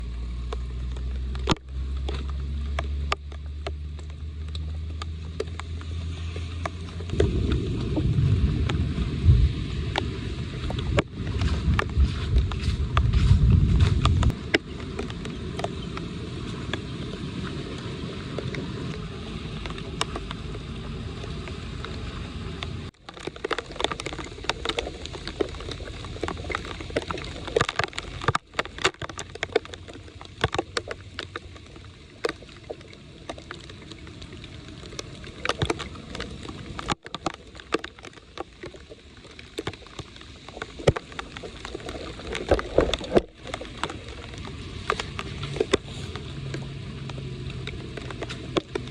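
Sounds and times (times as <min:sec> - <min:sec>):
floodwater gurgling in storm drain: 0:00.0 - 0:48.9
water rushing: 0:00.0 - 0:48.9
water splashing: 0:00.0 - 0:48.9.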